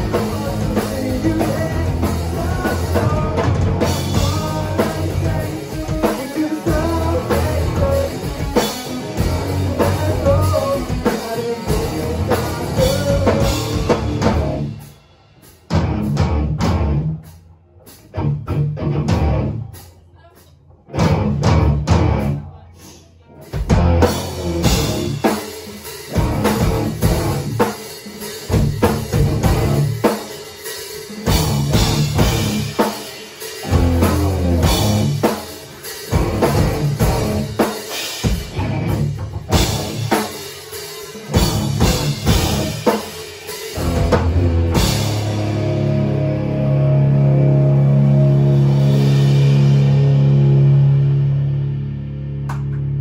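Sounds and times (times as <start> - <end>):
electric guitar: 0.0 - 19.8, 20.8 - 22.4, 23.3 - 53.0
bass guitar: 0.0 - 53.0
drum kit: 0.0 - 53.0.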